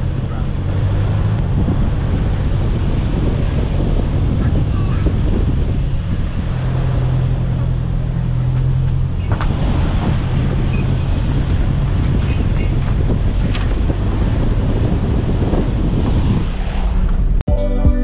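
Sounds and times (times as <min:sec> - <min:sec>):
wind noise: 0:00.0 - 0:17.4
car engine drone: 0:00.0 - 0:17.5
road rumble: 0:00.0 - 0:17.5.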